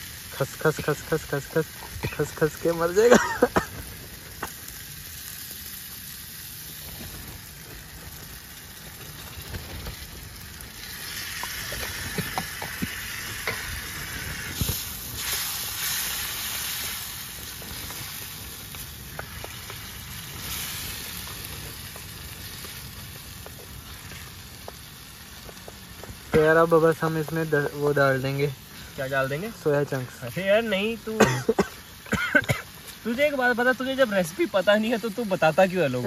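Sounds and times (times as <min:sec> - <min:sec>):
onions sizzling in a wok: 0:00.0 - 0:36.0.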